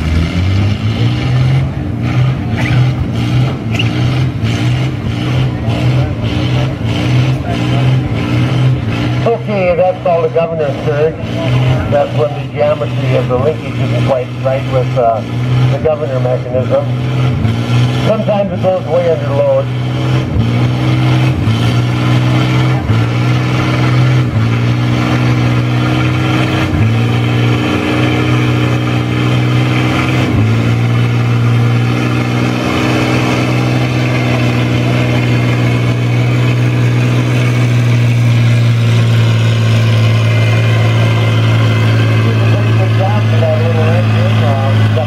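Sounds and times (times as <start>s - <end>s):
tractor engine under load: 0.0s - 45.0s.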